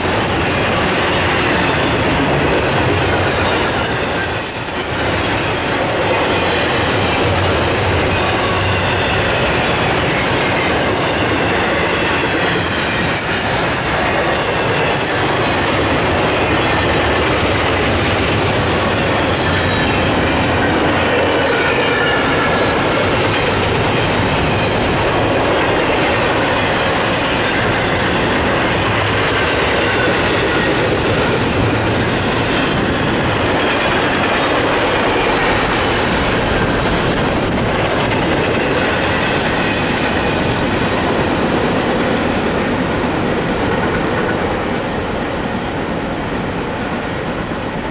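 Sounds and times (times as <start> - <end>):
steel wheels running on rail: 0.0 - 47.9.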